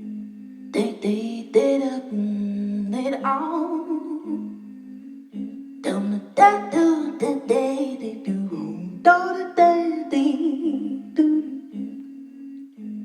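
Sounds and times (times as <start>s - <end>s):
woman singing wordless melody: 0.0s - 13.0s.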